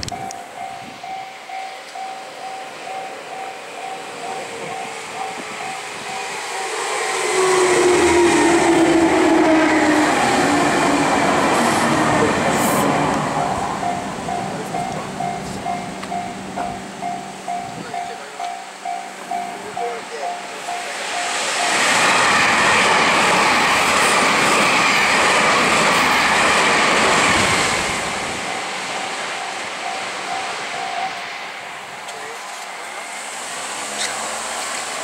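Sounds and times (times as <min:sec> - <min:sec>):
electric train running past: 0:00.0 - 0:35.0
train whine dropping in pitch: 0:00.0 - 0:35.0.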